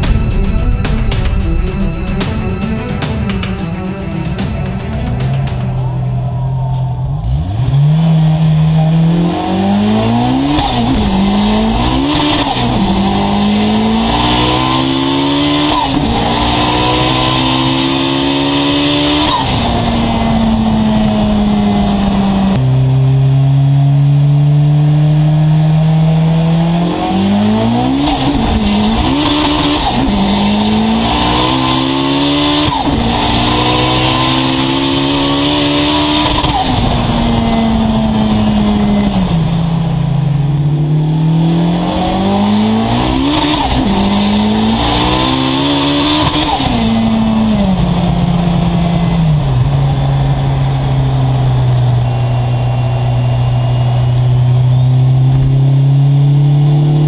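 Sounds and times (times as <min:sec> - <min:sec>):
turbocharged car engine revving: 0:00.0 - 0:57.0.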